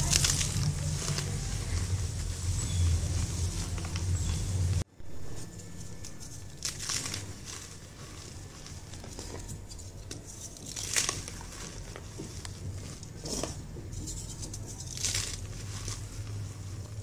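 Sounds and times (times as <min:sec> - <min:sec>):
hands crushing powdered chalk: 0:00.0 - 0:04.8, 0:05.5 - 0:17.0.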